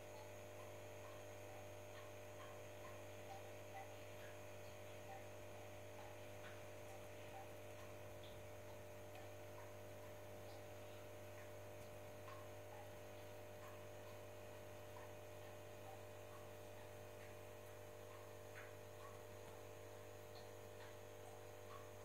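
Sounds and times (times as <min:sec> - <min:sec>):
faint electrical hum: 0:00.0 - 0:22.0
faint ticks: 0:00.0 - 0:22.0.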